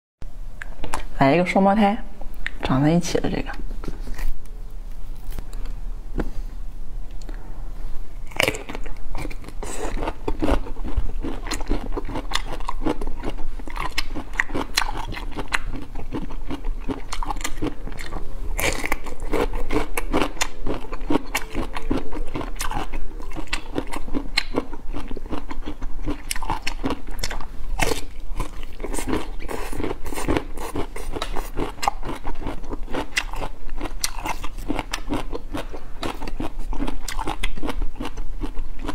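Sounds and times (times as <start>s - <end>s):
steady low hum: 0.2s - 38.9s
person chewing with crunches: 3.8s - 5.8s, 8.2s - 38.9s.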